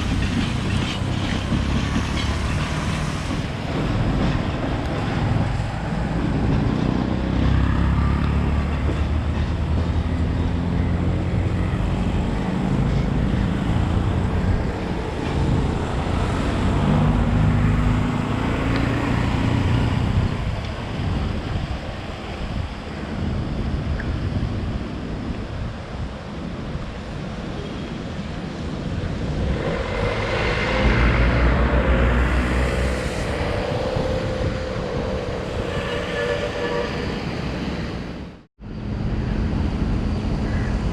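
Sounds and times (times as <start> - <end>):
diesel locomotive engine drone: 0.0 - 40.9.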